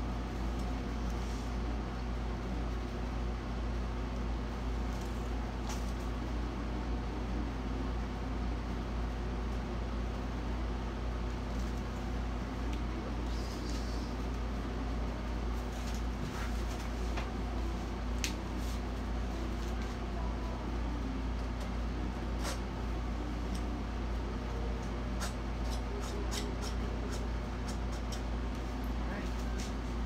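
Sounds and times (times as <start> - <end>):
air conditioner humming: 0.0 - 30.0.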